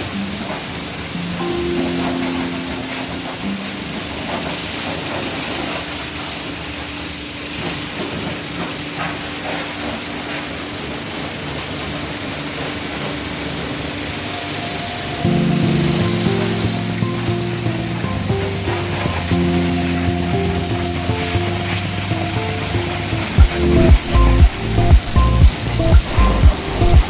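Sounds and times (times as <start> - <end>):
high-pressure water spray hiss: 0.0 - 26.9.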